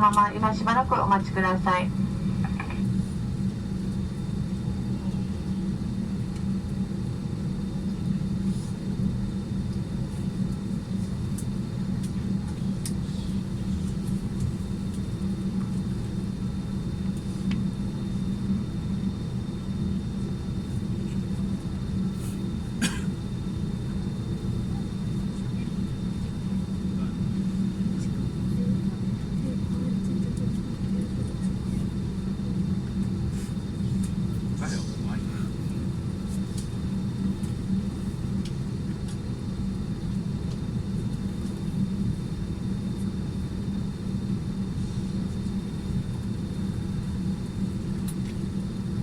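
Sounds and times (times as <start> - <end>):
airliner cabin air rush and hum: 0.0 - 49.0.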